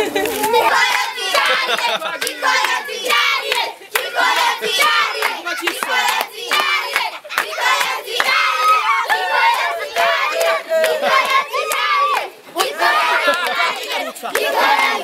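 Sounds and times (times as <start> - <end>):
children clapping: 0.0 - 15.0
children singing loudly: 0.4 - 15.0.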